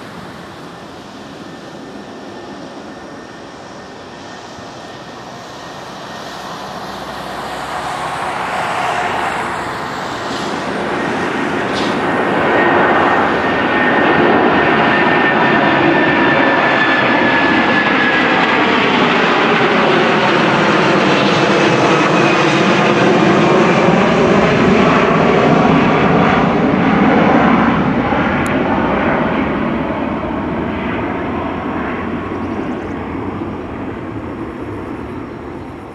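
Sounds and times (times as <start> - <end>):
high jet whine sliding down: 0.0 - 35.9
jet airliner taking off: 0.0 - 35.9.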